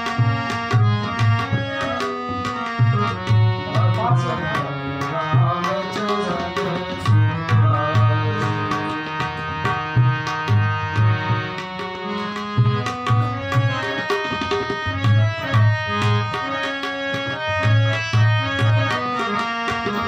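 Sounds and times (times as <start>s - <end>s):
sustained melody instrument: 0.0s - 20.0s
tabla playing a steady rhythm: 0.0s - 20.0s.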